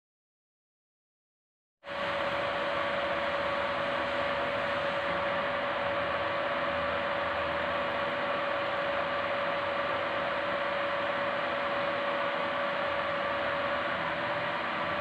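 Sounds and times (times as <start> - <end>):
fan hiss: 1.9 - 15.0
mid-pitched machine hum: 1.9 - 15.0.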